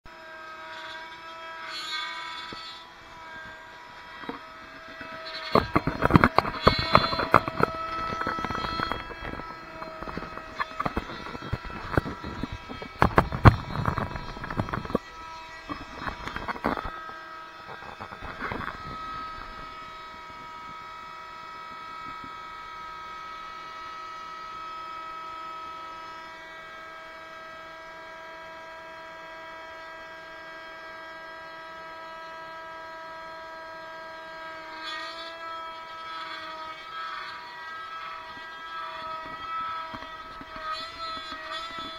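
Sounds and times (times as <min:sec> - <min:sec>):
router spindle whining: 0:00.1 - 0:41.9.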